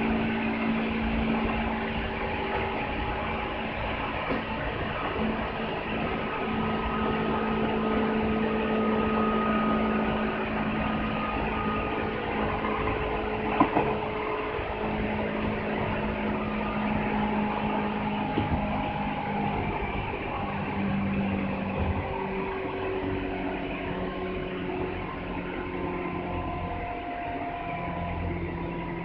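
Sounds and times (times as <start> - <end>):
traction motor humming: 0.0 - 29.0
train wheels on rails: 0.0 - 29.0.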